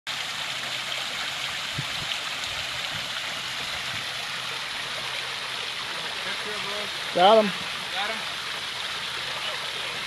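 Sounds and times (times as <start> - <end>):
water rushing: 0.1 - 10.0.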